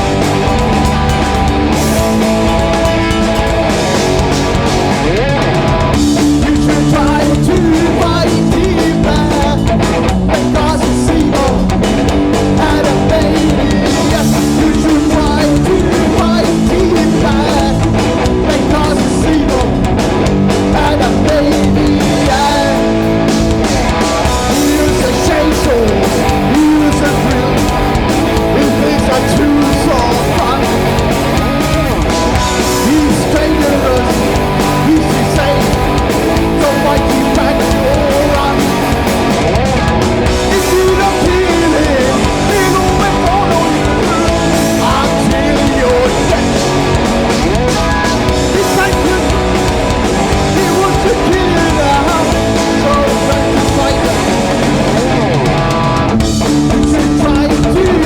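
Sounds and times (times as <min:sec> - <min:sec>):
punk rock band playing: 0:00.0 - 0:58.0
person singing: 0:04.5 - 0:11.8, 0:12.4 - 0:19.9, 0:20.5 - 0:23.1, 0:24.2 - 0:58.0.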